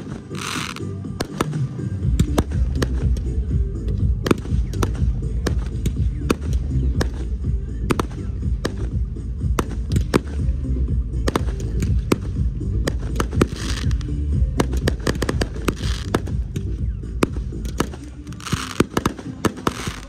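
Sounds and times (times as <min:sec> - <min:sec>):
bass-heavy music: 0:00.0 - 0:20.0
fireworks crackling: 0:00.0 - 0:20.0
fireworks pops and bangs: 0:00.0 - 0:20.0.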